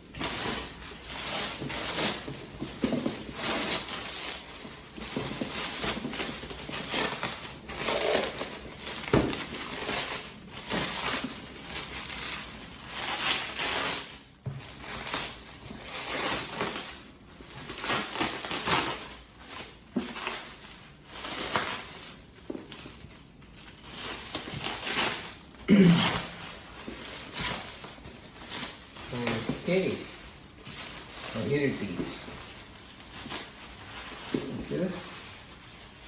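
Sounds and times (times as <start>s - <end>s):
packing material crinkling: 0.0s - 36.0s.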